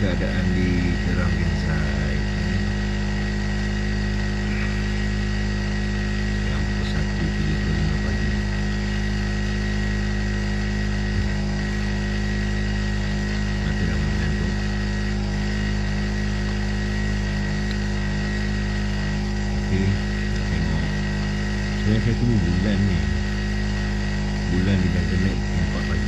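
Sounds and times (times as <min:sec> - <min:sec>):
generator engine running: 0:00.0 - 0:26.0.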